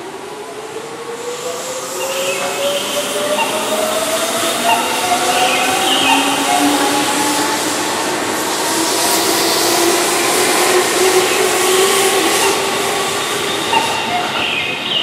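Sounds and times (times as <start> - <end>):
wheel-on-rail noise: 0.1 - 15.0.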